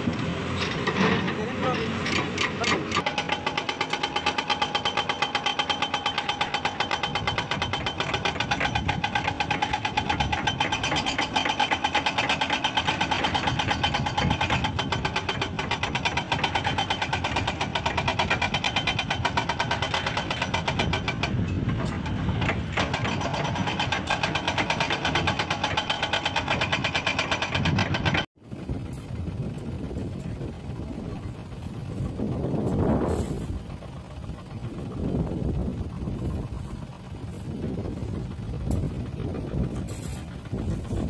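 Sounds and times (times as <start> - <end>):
excavator diesel engine pulsing: 0.0 - 41.0.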